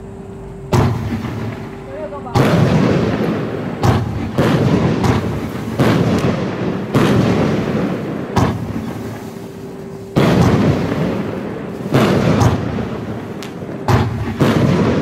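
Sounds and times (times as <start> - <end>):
fireworks bangs: 0.7 - 15.0.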